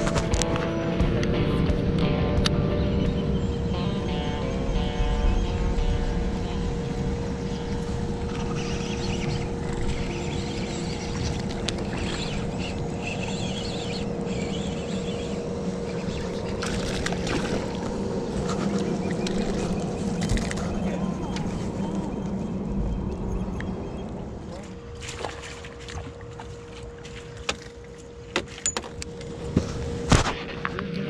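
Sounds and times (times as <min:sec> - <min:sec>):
constant hum: 0:00.0 - 0:31.0
river rumbling: 0:00.0 - 0:31.0.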